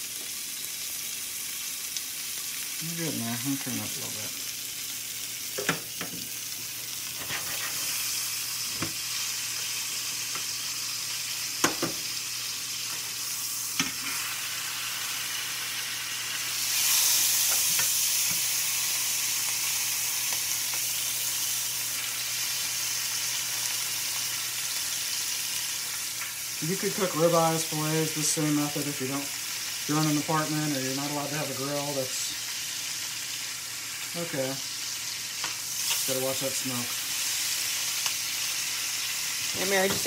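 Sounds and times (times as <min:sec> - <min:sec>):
steak sizzling in butter: 0:00.0 - 0:40.0.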